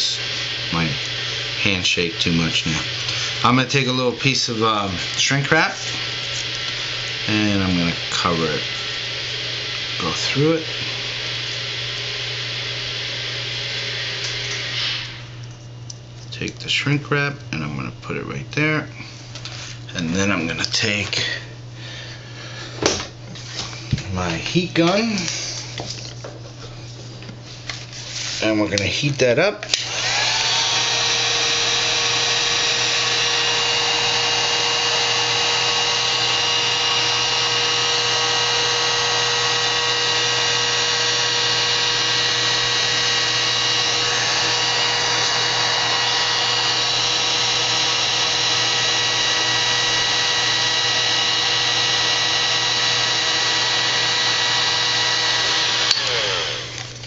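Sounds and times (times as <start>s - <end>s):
heat gun fan whirring: 0.0s - 57.0s
steady whining tones: 0.0s - 57.0s.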